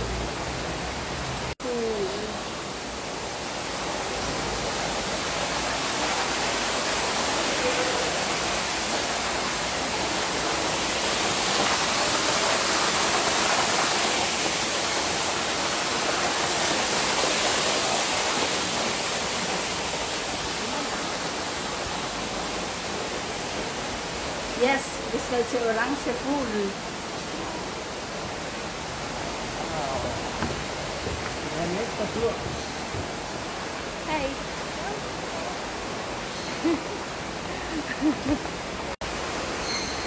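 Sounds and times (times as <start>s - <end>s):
rush of falling water: 0.0s - 40.0s.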